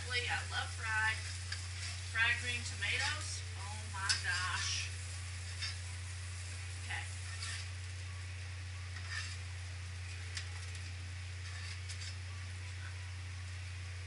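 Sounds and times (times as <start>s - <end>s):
steady low hum: 0.0s - 14.0s
vegetables sizzling in a skillet: 0.0s - 14.0s
utensil scraping pan: 0.2s - 7.9s, 8.8s - 13.0s.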